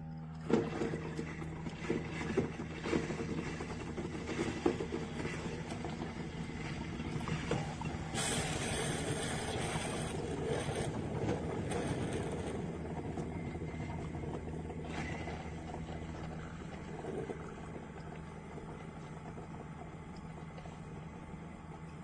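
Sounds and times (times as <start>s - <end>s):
coffee maker gurgling and sputtering: 0.0s - 22.0s
steady low hum: 0.0s - 22.0s.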